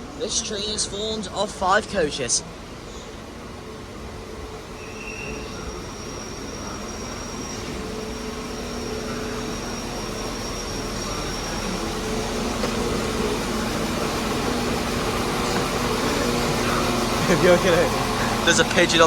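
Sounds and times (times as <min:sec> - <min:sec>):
diesel train engines idling: 0:00.0 - 0:19.0.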